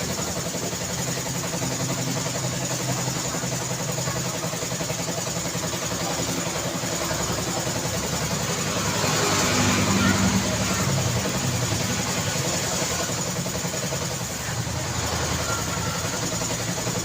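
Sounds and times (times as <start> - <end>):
vehicle engines at low speed: 0.0 - 17.0.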